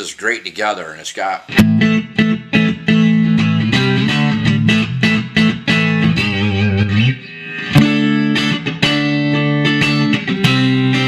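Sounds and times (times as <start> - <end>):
electric guitar notes and chords: 1.5 - 11.0.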